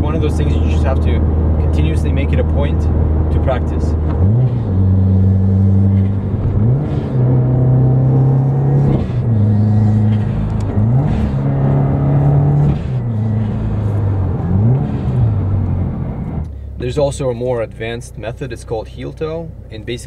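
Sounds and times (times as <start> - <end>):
car engine shifting through gears: 0.0 - 19.9.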